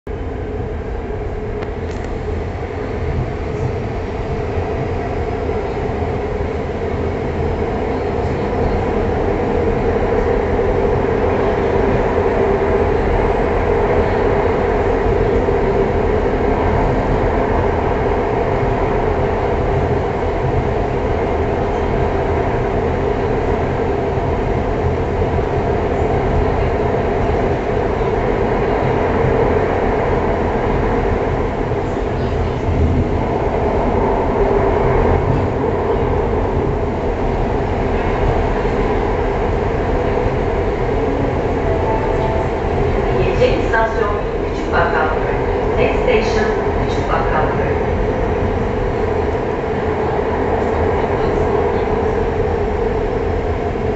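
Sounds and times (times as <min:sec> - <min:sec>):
metro train rumbling in tunnel: 0:00.0 - 0:53.9.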